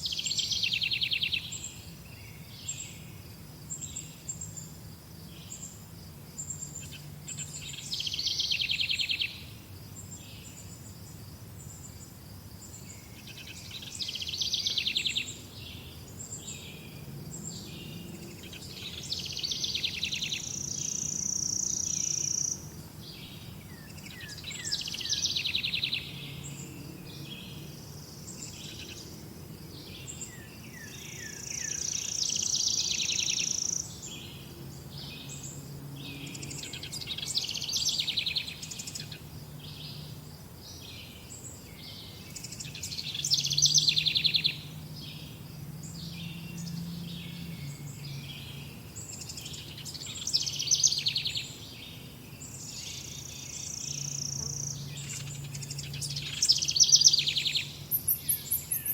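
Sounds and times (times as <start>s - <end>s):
songbirds chirping and singing: 0.0s - 12.0s, 12.6s - 58.9s.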